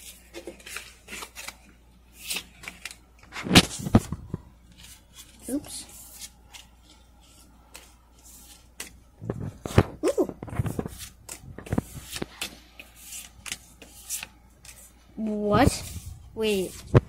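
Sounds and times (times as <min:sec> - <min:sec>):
cards flipping with papery clicks: 0:00.3 - 0:14.9.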